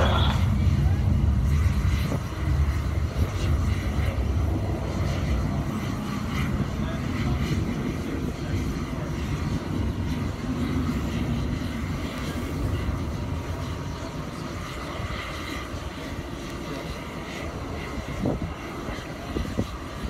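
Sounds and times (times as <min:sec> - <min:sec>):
distant jet engine rumble: 0:00.0 - 0:20.0.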